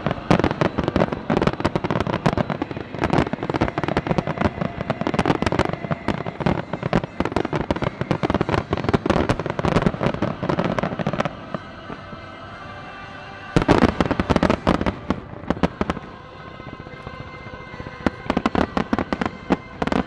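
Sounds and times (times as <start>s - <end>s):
fireworks bangs and crackles: 0.0s - 12.2s, 13.4s - 20.0s.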